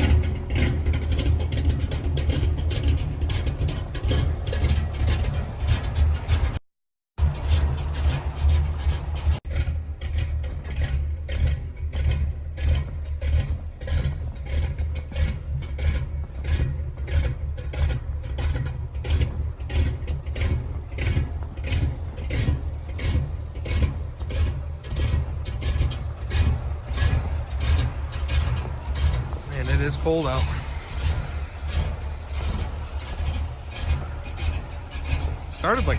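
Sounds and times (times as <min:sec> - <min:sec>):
pickup engine idling unevenly: 0:00.0 - 0:06.6, 0:07.2 - 0:35.9.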